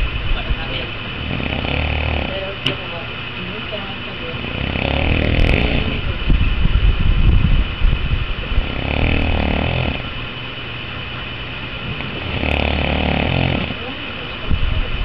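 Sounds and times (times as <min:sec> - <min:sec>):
heavy rattling snoring: 0:00.0 - 0:02.8, 0:04.2 - 0:10.4, 0:11.6 - 0:15.0.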